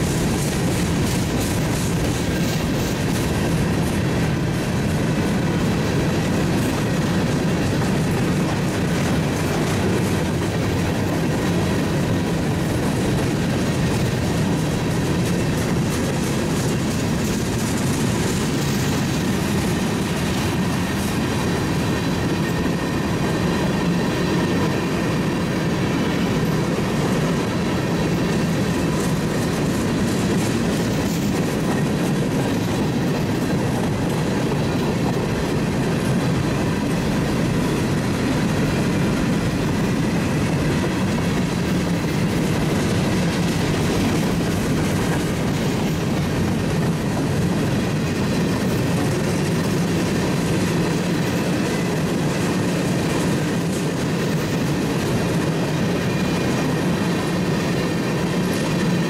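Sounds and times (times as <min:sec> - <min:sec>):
train rumble: 0:00.0 - 0:59.0
train wheels clicking over rails: 0:00.0 - 0:59.0.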